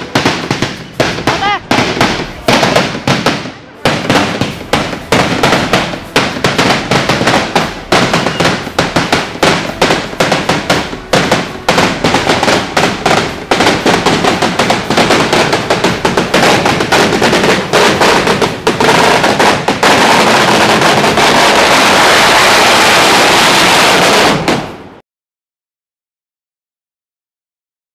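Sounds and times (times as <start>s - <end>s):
firecrackers banging and crackling: 0.0s - 25.0s.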